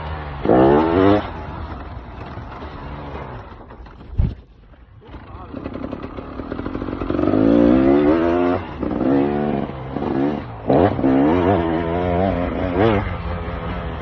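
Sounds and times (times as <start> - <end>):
two-stroke motorcycle engine revving: 0.0 - 3.9, 5.1 - 14.0.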